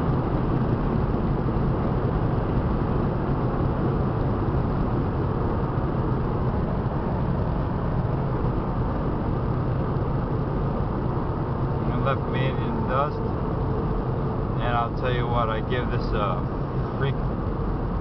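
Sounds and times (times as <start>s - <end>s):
car interior engine and tyre drone: 0.0s - 18.0s.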